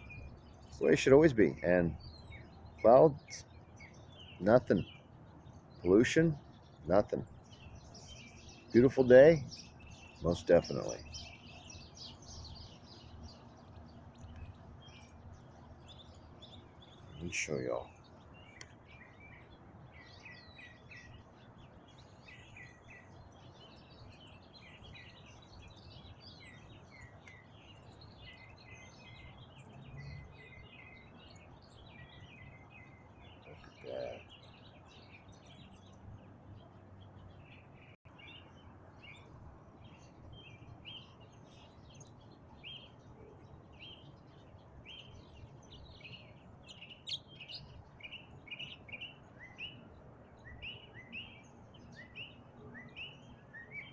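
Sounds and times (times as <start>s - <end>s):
bird singing varied chirps: 0.0s - 53.9s
low background hiss: 0.0s - 53.9s.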